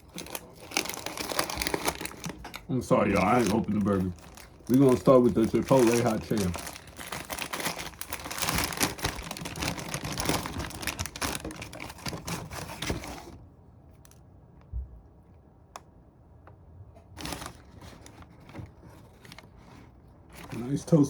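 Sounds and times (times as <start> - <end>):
wrapper crinkling and rustling: 0.0 - 13.4, 17.2 - 21.0.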